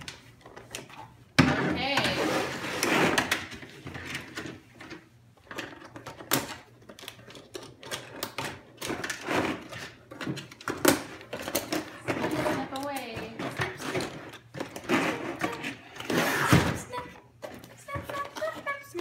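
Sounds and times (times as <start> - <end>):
toy box packaging being handled: 1.8 - 19.0.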